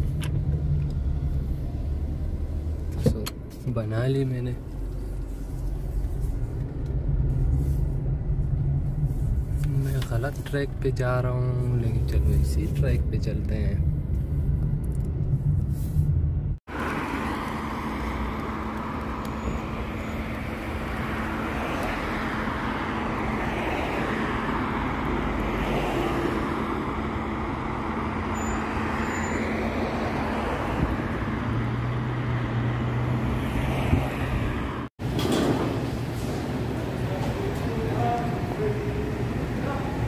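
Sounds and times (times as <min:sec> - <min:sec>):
low engine hum: 0:00.0 - 0:03.8, 0:04.6 - 0:34.9
cars passing: 0:00.0 - 0:40.0.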